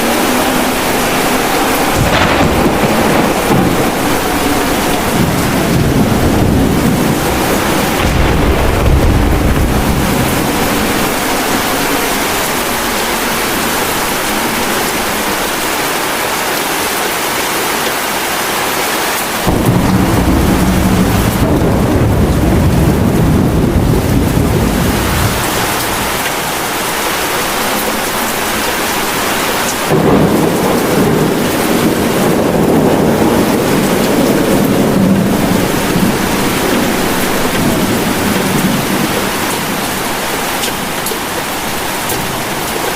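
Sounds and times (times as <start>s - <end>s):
rolling thunder: 0.0s - 16.5s, 19.3s - 42.9s
heavy rain: 0.0s - 42.9s.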